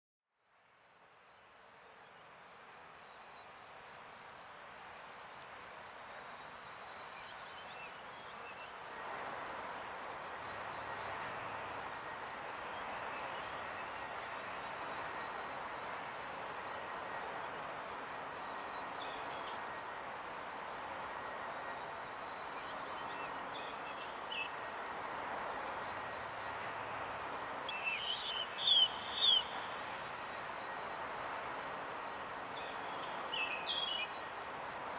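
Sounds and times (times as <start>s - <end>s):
outdoor background noise: 0.3s - 34.9s.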